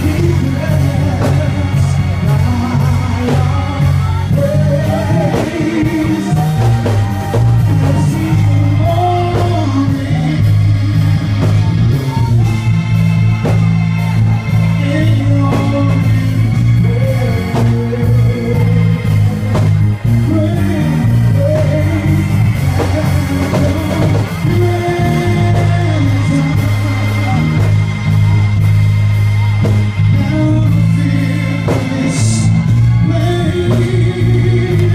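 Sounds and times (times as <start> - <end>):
gospel band with bass line: 0.0 - 34.9
voices singing: 0.0 - 34.9.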